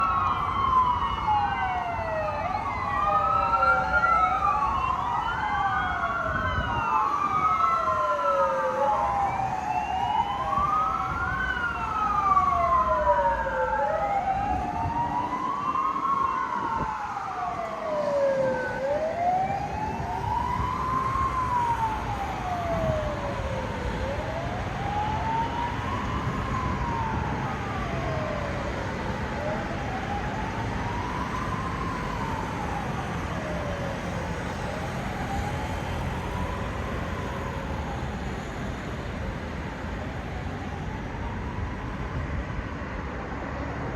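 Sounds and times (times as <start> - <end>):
engine and road rumble: 0.0 - 43.9
fire engine sirens wailing: 0.0 - 43.9.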